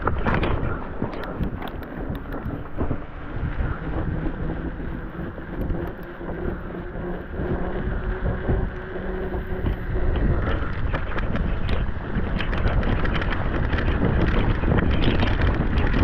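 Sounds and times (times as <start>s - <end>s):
faint hum: 0.0s - 16.0s
sharp crackles: 0.0s - 16.0s
wind buffeting microphone: 0.0s - 16.0s.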